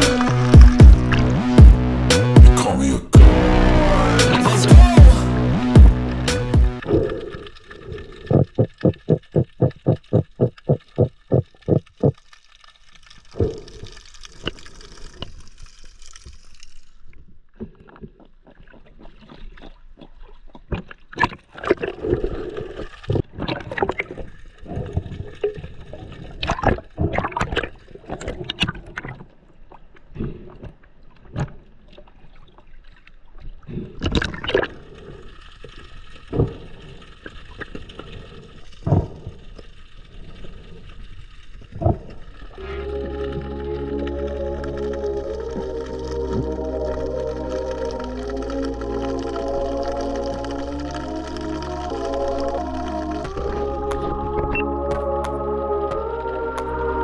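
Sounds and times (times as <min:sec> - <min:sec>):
underwater gurgling and sloshing: 0:06.8 - 0:57.0.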